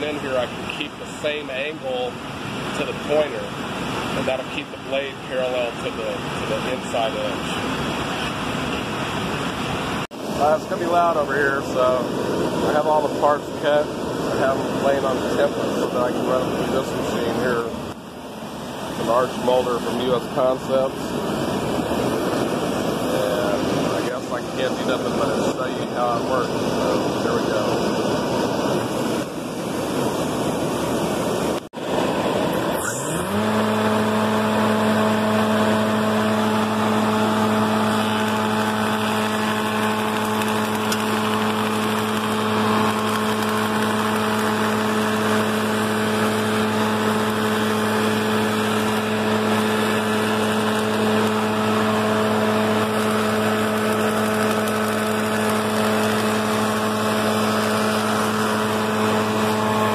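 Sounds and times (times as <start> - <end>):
steady rushing noise: 0.0 - 59.9
moulder motor spinning up: 5.3 - 59.9.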